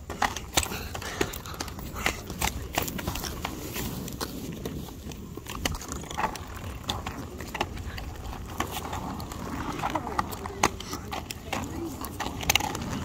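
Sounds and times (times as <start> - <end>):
roller skates rolling on asphalt: 0.0 - 13.0
skates clicking and knocking: 0.0 - 13.0.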